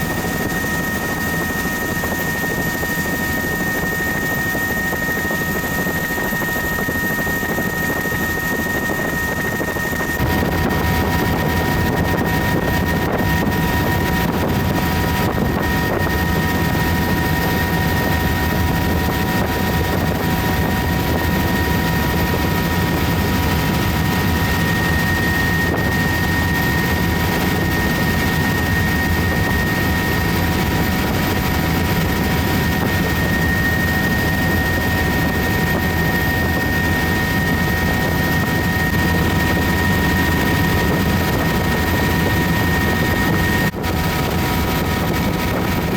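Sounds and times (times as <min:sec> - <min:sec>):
helicopter rotor and engine noise: 0:00.0 - 0:45.9.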